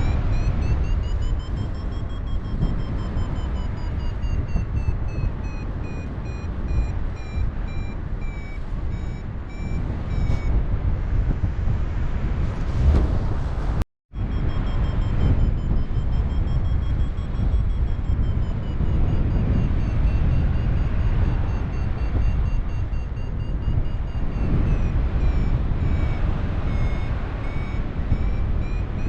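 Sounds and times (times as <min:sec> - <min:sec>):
variometer beeping: 0:00.0 - 0:10.6, 0:14.2 - 0:29.0
wind rush on microphone: 0:00.0 - 0:29.0.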